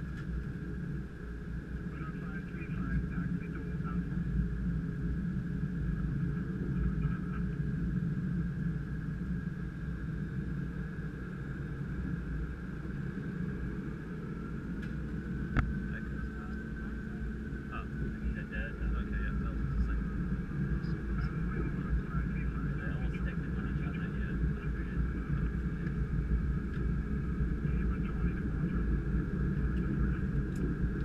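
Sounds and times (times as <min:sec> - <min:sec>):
high whine: 0:00.0 - 0:31.0
jet engines low rumble: 0:00.0 - 0:31.0.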